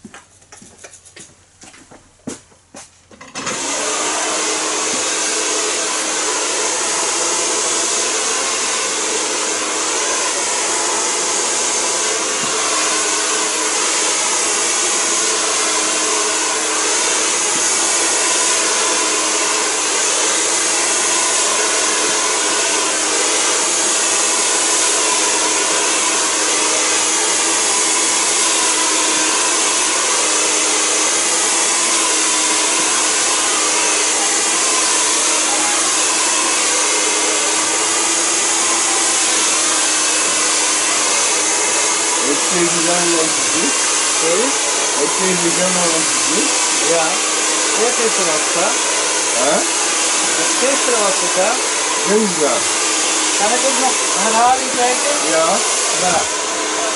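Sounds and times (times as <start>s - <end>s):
hair dryer blowing: 3.2s - 56.9s.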